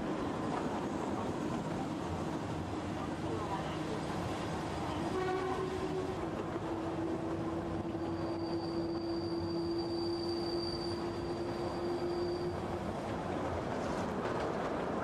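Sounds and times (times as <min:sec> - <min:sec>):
steady train whine: 0:00.0 - 0:15.0
wheels rumbling on rails: 0:00.0 - 0:15.0.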